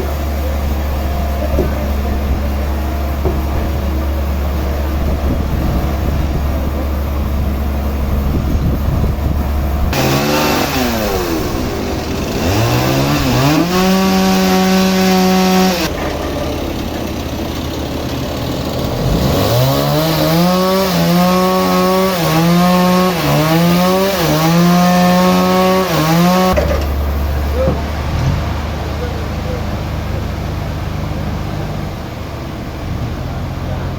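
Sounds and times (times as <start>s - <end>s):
engine-driven saw revving: 0.0s - 33.9s.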